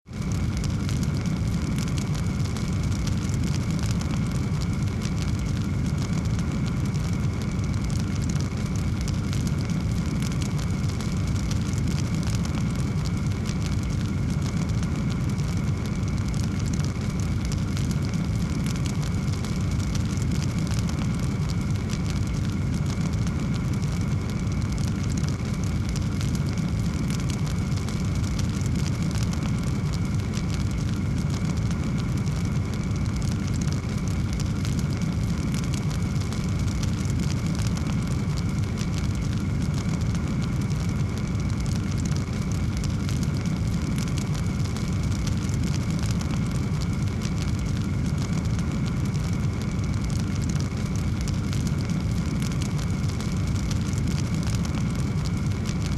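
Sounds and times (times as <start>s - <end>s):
fire crackling and popping: 0.0s - 55.9s
fire rumbling: 0.0s - 55.9s.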